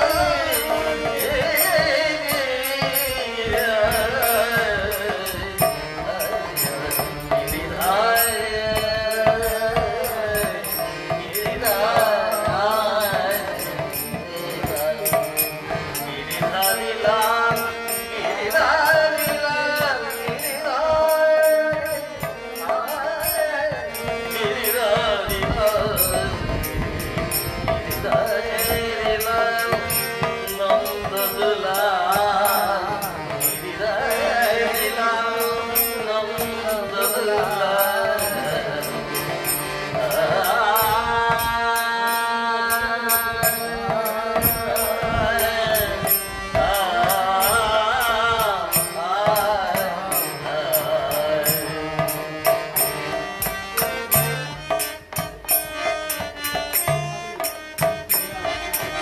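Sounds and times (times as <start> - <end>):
harmonium chords: 0.0 - 59.0
man singing devotional chant: 0.0 - 59.0
percussion rhythm: 0.0 - 59.0.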